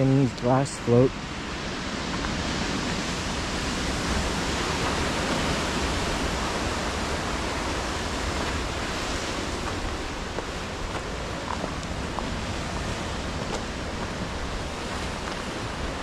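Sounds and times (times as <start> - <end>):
ocean surf rushing: 0.0 - 16.0
wind rumbling on microphone: 0.0 - 16.0.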